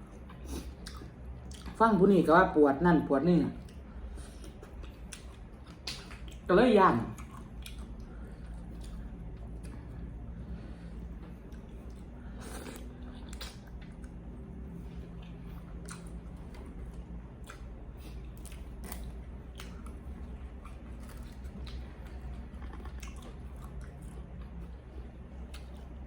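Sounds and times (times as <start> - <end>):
person chewing food: 0.0 - 1.8, 3.6 - 6.5, 7.1 - 26.0
steady low hum: 0.0 - 26.0.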